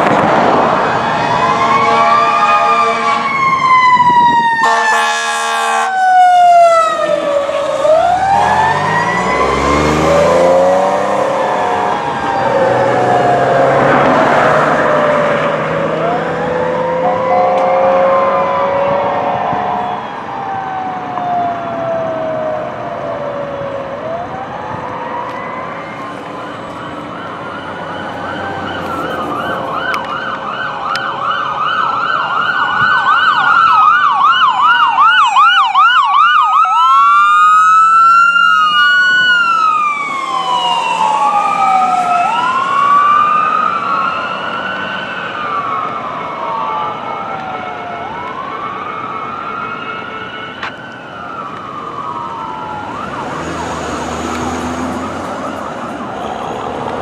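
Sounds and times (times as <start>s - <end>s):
electronic emergency sirens: 0.0s - 57.0s.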